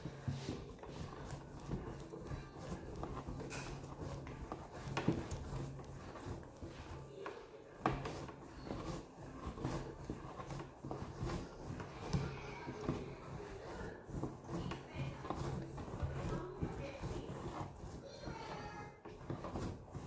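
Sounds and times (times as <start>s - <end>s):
hands kneading dough: 0.0s - 20.0s.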